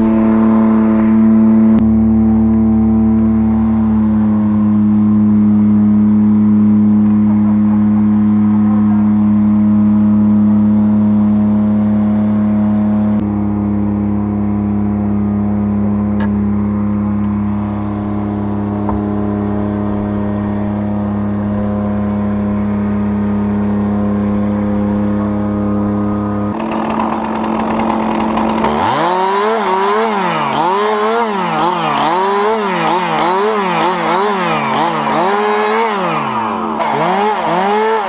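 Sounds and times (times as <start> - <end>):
chainsaw revving and cutting: 0.0 - 13.2, 17.3 - 38.0
engine running steadily: 0.0 - 38.0.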